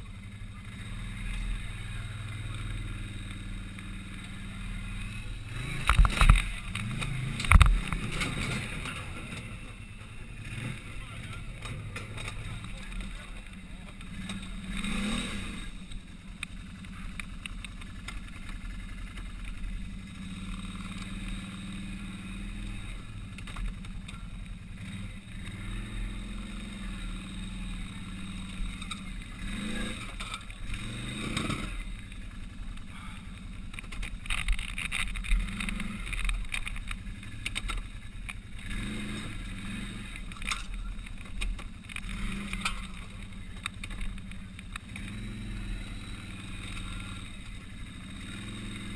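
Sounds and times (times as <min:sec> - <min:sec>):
atv engine idling with throttle blips: 0:00.0 - 0:48.9.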